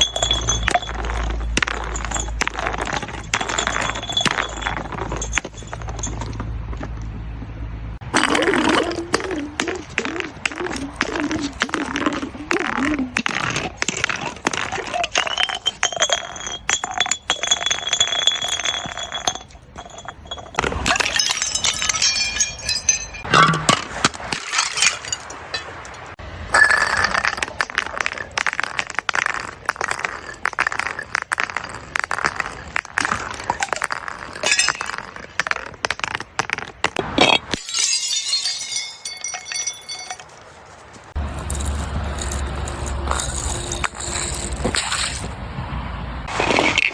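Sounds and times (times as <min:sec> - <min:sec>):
glass breaking and crunching: 0:00.0 - 0:06.9, 0:08.2 - 0:40.4, 0:41.4 - 0:45.4.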